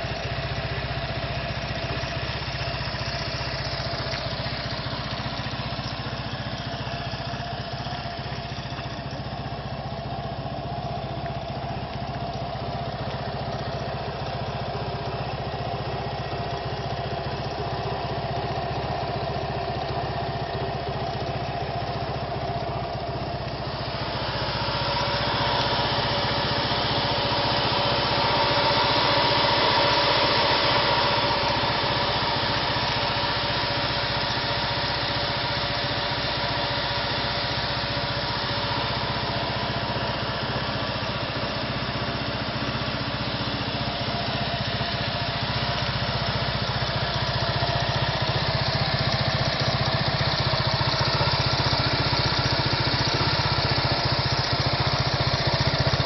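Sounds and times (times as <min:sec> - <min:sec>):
scooter engine idling: 0:00.0 - 0:56.0.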